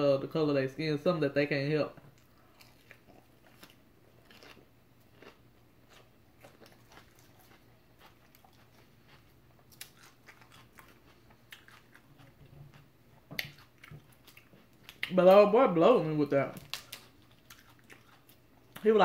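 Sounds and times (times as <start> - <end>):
chewing lettuce: 2.2 - 15.4, 16.5 - 19.0.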